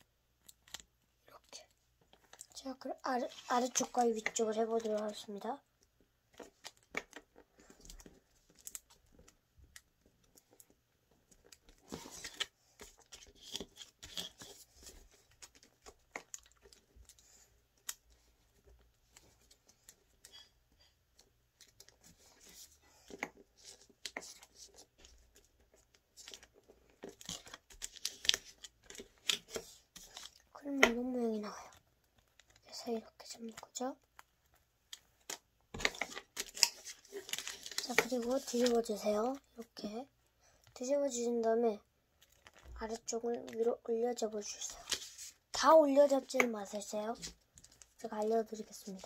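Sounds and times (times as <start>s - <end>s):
paper being folded and creased: 2.1s - 5.5s, 6.3s - 20.5s, 21.2s - 34.3s, 35.2s - 39.7s, 42.2s - 49.0s.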